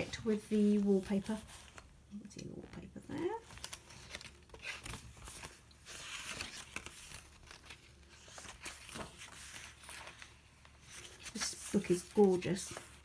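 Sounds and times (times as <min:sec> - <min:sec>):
paper pages rustling and crinkling: 0:00.0 - 0:01.9, 0:02.5 - 0:13.0.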